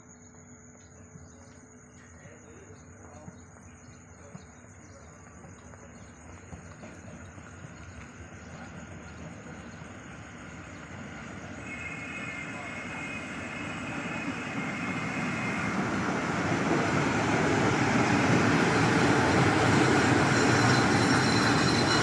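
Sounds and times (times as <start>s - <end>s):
crickets trilling: 0.0s - 22.0s
train rumble: 0.0s - 22.0s.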